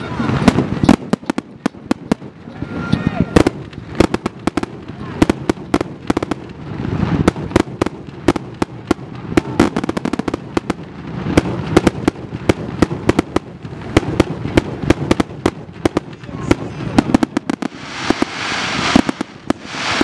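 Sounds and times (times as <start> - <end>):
continuous rumble: 0.0 - 17.9
fireworks bangs: 0.0 - 20.0.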